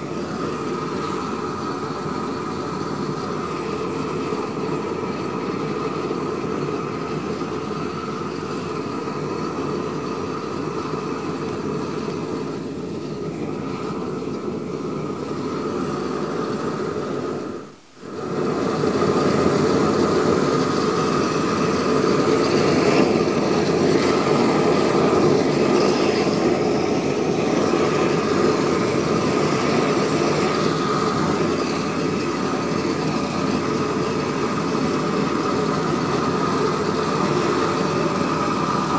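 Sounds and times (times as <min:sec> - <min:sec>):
torch flame rushing: 0:00.0 - 0:38.9.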